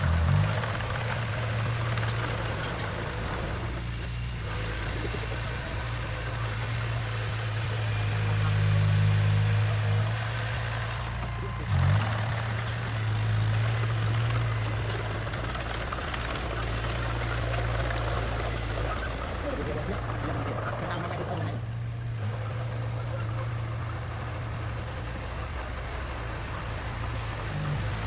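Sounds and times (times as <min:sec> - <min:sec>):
diesel engine low drone: 0:00.0 - 0:28.0.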